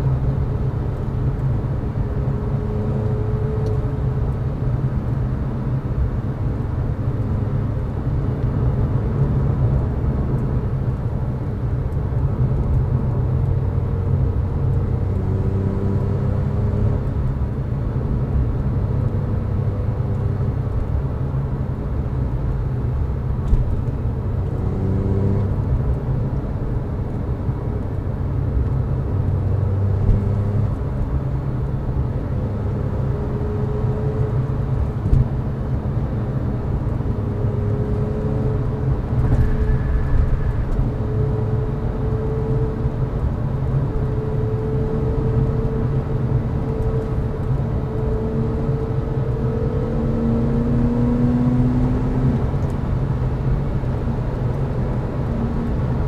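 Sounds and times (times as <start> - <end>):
car engine drone: 0.0 - 56.0.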